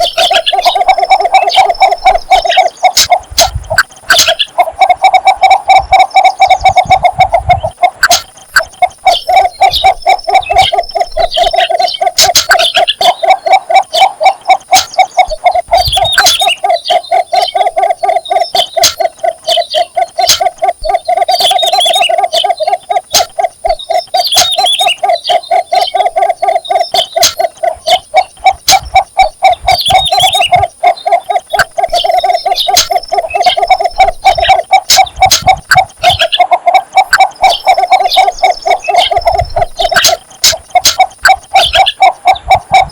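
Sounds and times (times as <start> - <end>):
bittern calling low notes: 0.0 - 42.9.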